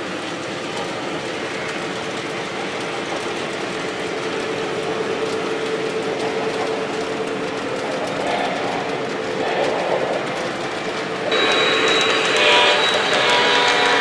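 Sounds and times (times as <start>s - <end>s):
model train rolling rumble: 0.0s - 14.0s.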